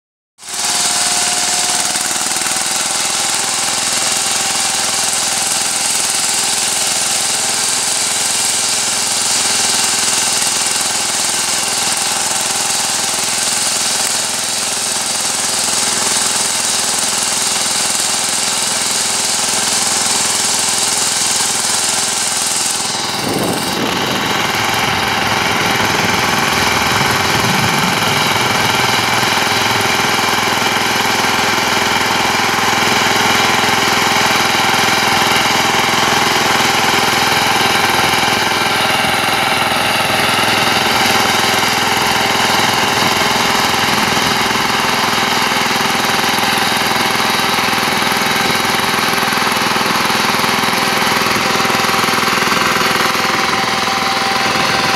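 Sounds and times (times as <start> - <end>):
diesel tiller engine running: 0.4 - 54.9
tiller churning soil: 0.4 - 54.9.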